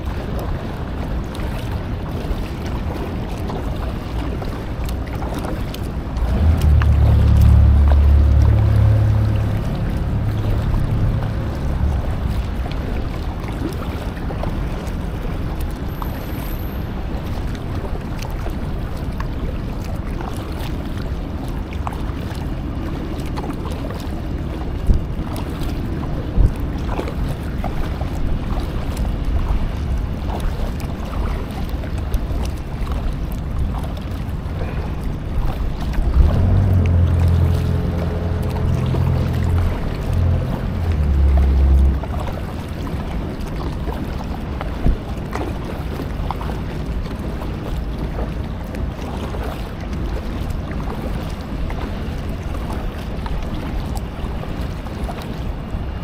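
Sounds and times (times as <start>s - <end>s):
paddle splashing water: 0.0s - 56.0s
wind rumble on microphone: 0.0s - 56.0s.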